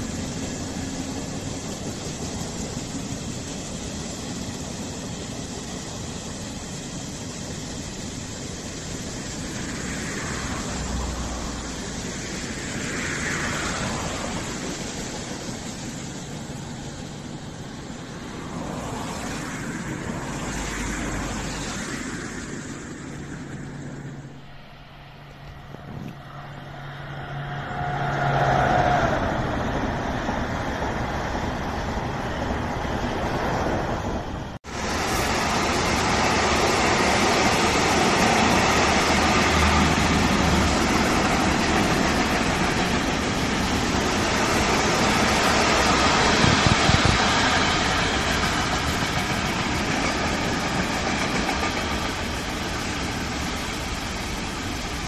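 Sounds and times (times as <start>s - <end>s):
freight train rumbling past: 0.0s - 55.0s
wheels rumbling on rail: 0.0s - 55.0s.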